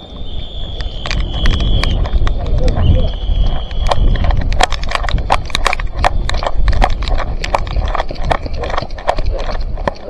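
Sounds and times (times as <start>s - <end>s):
camera shaking rumble: 0.0s - 10.0s
quick footsteps: 0.0s - 10.0s
gear knocking and clicking: 1.0s - 10.0s.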